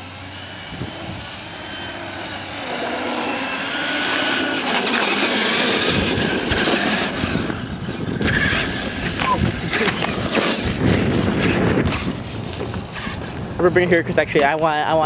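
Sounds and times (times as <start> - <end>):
electric motor whine: 0.0 - 13.6
toy truck tyres on asphalt: 0.0 - 15.0.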